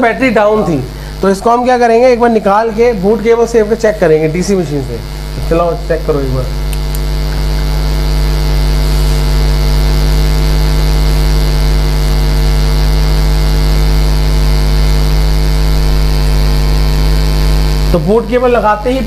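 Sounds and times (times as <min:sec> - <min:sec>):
loud electrical mains hum: 0:00.0 - 0:19.0.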